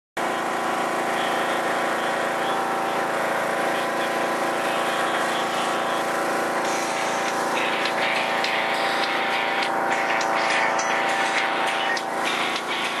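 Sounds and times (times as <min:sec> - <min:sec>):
riding lawn mower engine running: 0:00.2 - 0:13.0.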